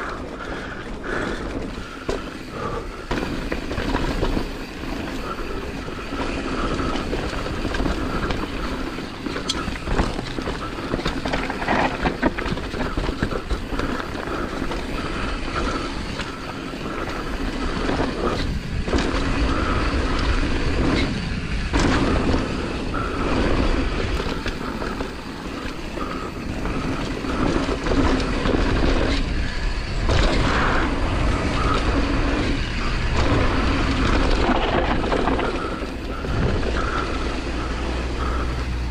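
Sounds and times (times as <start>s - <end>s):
bike chain and frame rattling: 0.0s - 38.9s
sharp clacks over bumps: 0.0s - 38.9s
tyres rolling over dirt trail: 0.0s - 38.9s.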